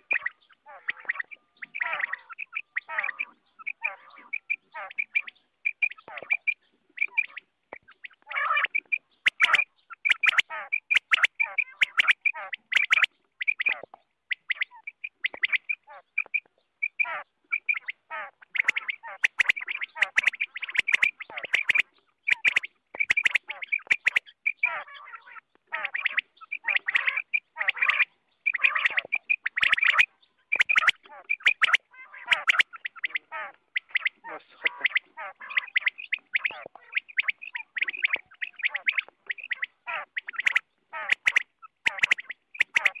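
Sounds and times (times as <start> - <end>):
quail calling: 0.0 - 43.0.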